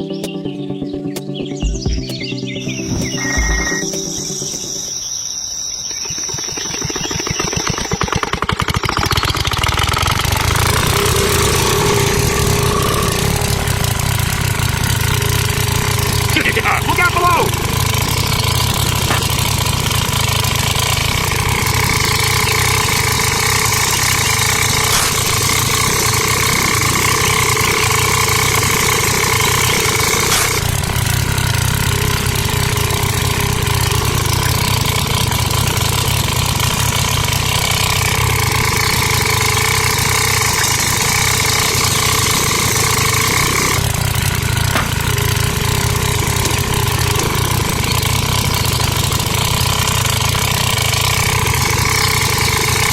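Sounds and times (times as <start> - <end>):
small engine idling with whine: 0.0 - 52.9.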